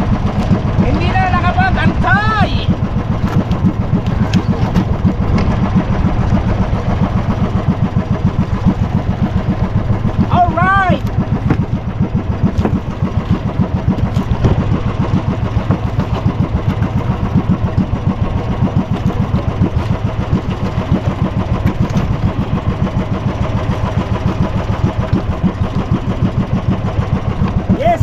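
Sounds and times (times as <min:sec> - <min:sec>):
boat engine chugging: 0:00.0 - 0:28.0.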